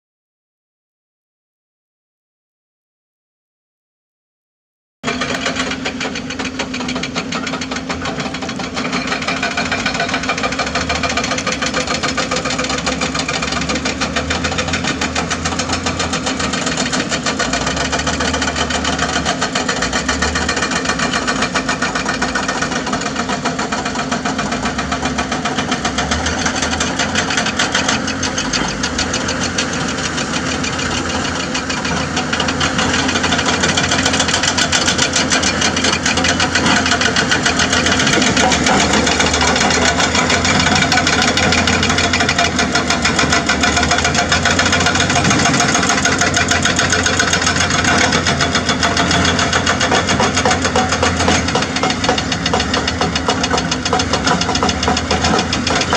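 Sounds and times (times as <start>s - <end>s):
excavator diesel engine running: 5.0s - 55.9s
hydraulic breaker hammering rock: 5.0s - 55.9s.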